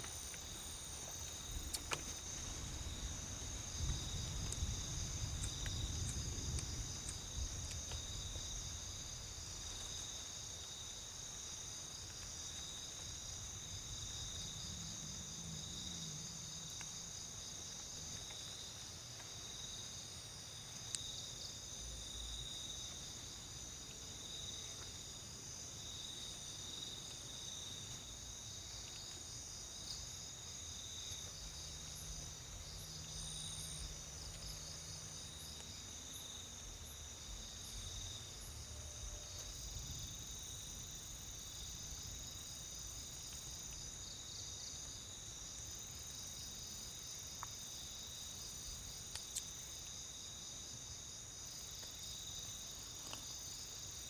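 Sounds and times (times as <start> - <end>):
crickets and insects trilling: 0.0 - 54.0.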